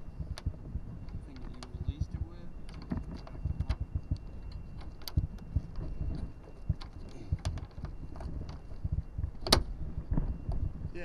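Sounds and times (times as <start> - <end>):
low wind rumble on microphone: 0.0 - 11.0.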